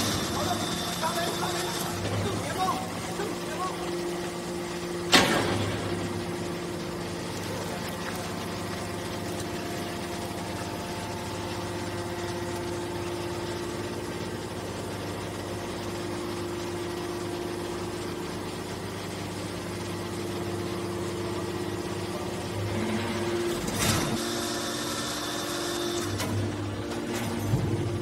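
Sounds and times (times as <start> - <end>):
hydraulic power unit humming: 0.0 - 28.0.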